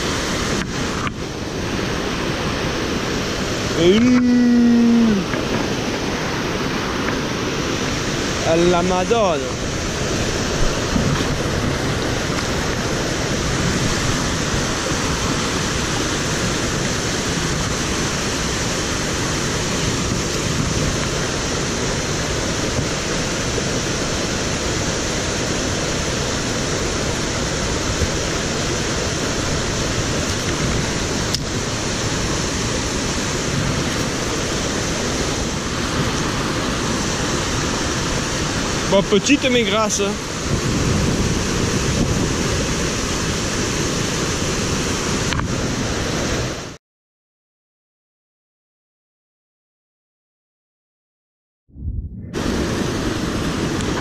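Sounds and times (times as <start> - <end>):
stream rushing over boulders: 0.0 - 46.8, 52.4 - 54.0.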